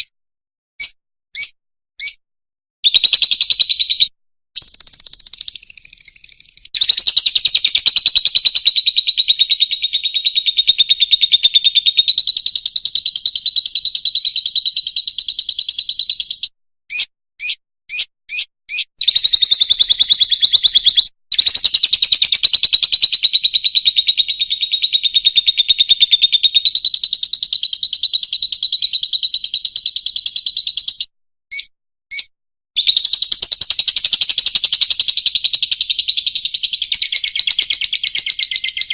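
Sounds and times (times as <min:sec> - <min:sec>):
sharp bird chirps: 0:00.8 - 0:02.2, 0:02.8 - 0:38.9
bird buzzy trills: 0:02.9 - 0:38.9.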